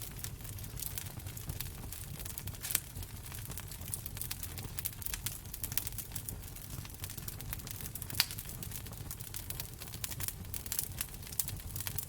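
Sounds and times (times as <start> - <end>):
low steady fire rumble: 0.0 - 12.0
wood fire crackling: 0.0 - 12.0.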